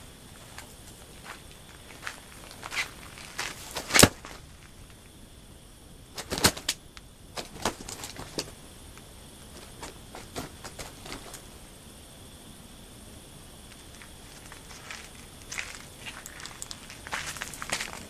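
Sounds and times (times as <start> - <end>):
faint outdoor noise: 0.0 - 18.0.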